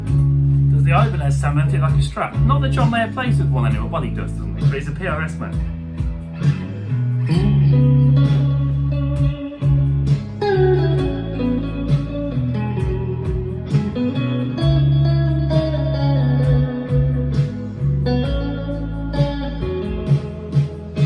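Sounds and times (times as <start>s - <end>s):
clean electric guitar: 0.0s - 21.0s.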